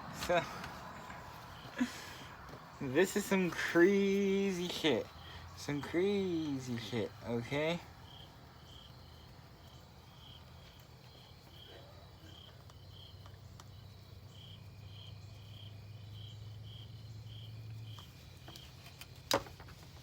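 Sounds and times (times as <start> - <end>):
cricket chirping: 0.0 - 20.0
faint low hum: 0.0 - 20.0.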